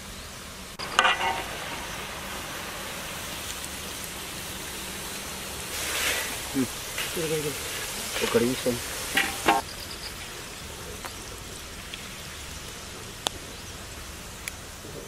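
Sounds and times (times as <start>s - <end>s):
food sizzling in hot oil: 0.7s - 14.8s.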